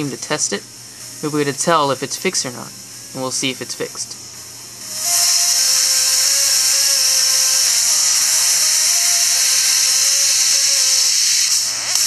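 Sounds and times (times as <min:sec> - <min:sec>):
harsh speaker hiss: 0:00.0 - 0:12.0.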